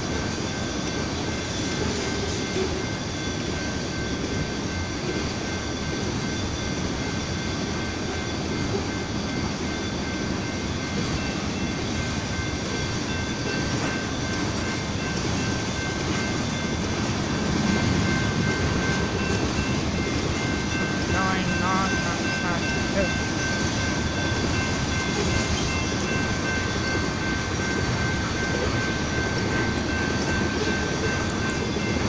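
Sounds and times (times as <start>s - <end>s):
train wheels rumbling on rail: 0.0s - 32.0s
thin high ringing tone: 0.4s - 32.0s.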